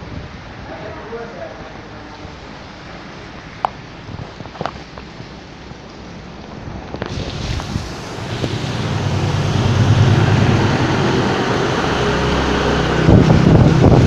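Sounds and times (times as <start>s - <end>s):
heavy rain hissing: 0.0s - 14.0s
vehicle engine hum: 1.9s - 14.0s.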